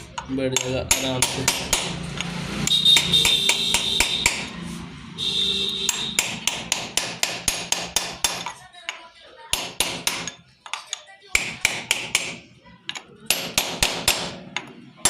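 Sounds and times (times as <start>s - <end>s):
metal-on-metal tapping: 0.0s - 4.5s, 5.8s - 14.8s.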